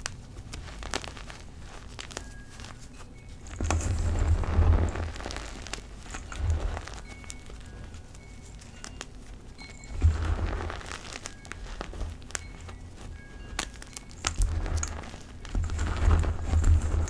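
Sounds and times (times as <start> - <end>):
hands crunching chalk: 0.0 - 17.0.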